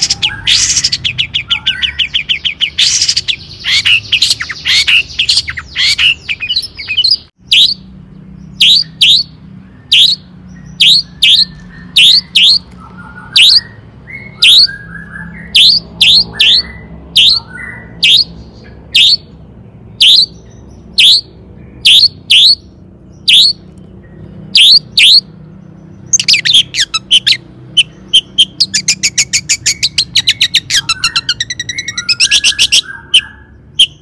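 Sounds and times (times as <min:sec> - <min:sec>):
shrike chattering song: 0:00.0 - 0:34.0.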